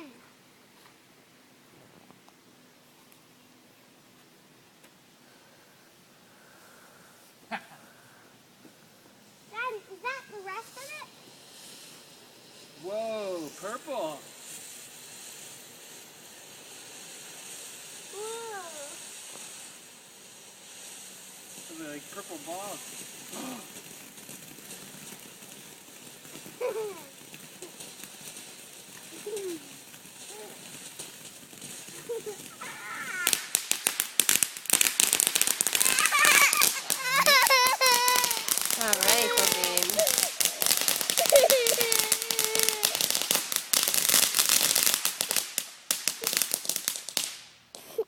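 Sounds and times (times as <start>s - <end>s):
fireworks crackling: 0.0s - 48.0s
steady high hiss: 0.0s - 48.0s.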